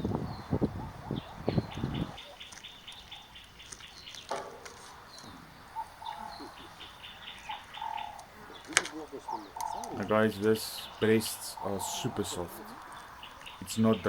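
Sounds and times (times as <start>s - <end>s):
high bird chirps: 0.0s - 14.0s
lower whistled bird notes: 0.0s - 14.0s.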